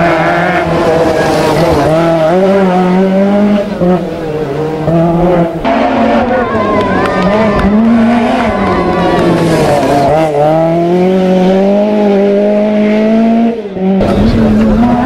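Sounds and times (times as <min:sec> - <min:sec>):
rally car engine revving hard: 0:00.0 - 0:15.0.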